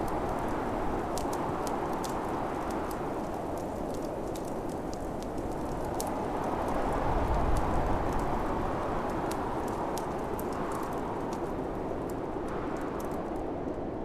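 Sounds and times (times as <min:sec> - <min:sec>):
wind blowing: 0:00.0 - 0:14.0
wood fire crackling: 0:00.0 - 0:14.0.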